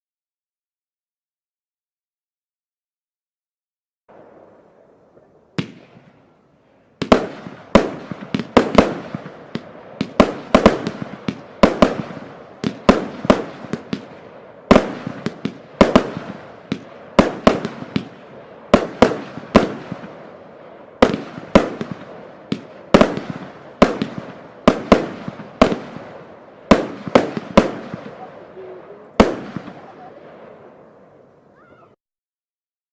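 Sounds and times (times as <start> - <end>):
firework bangs: 4.1 - 31.9.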